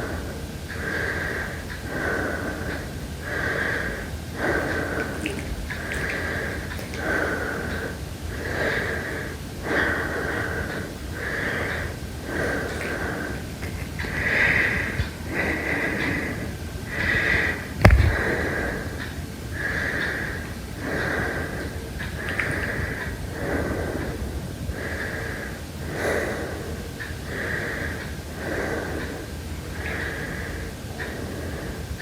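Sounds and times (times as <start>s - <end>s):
heavy breathing: 0.0s - 32.0s.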